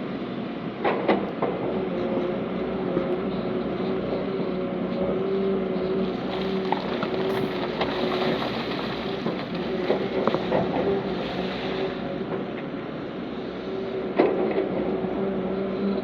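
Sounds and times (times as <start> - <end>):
diesel machinery droning: 0.0 - 16.0.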